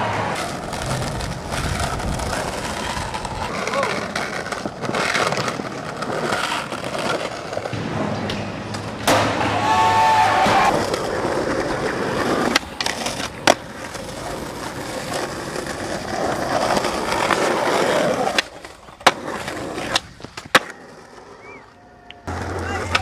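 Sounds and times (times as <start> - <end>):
skateboard clacking on ground: 0.0 - 23.0
skateboard wheels rolling on concrete: 0.0 - 23.0.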